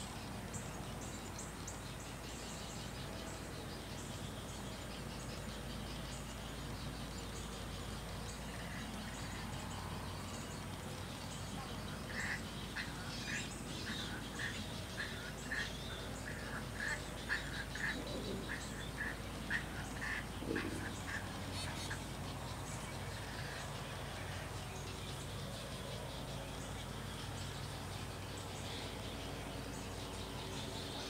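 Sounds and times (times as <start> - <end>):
birds calling: 0.0 - 31.0
faint background hiss: 0.0 - 31.0.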